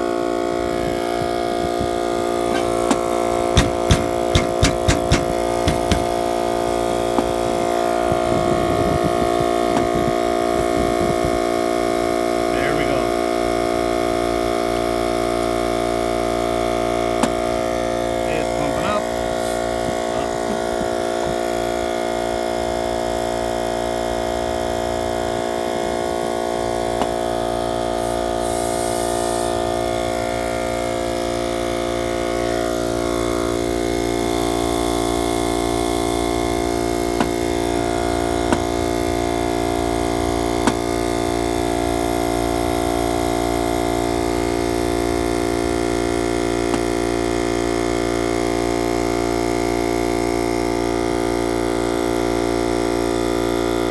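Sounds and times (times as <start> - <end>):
electric air compressor running: 0.0 - 53.9.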